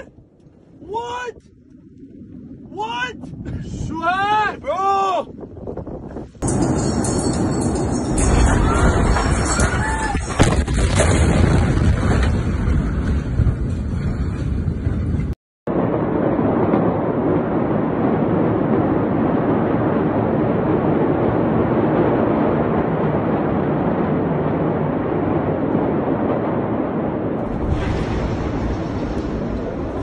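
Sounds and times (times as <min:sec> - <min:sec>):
wind on phone microphone: 0:00.0 - 0:30.0
low rumble: 0:05.3 - 0:30.0.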